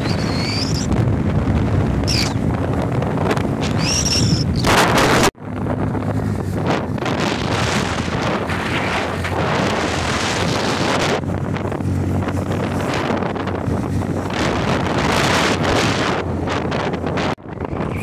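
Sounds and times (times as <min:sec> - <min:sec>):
motorcycle engine drone: 0:00.0 - 0:18.0
wind rushing over microphone: 0:00.0 - 0:18.0.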